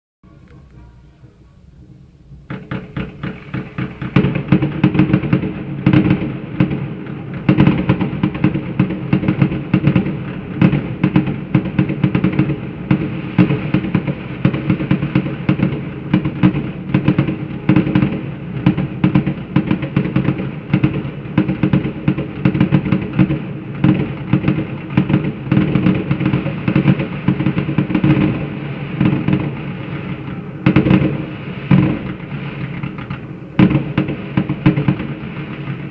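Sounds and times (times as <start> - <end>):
fireworks bangs: 0.2 - 35.9.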